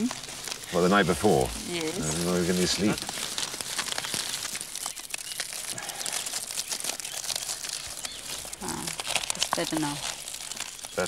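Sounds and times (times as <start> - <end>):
dry wrapping crackling: 0.0 - 11.0.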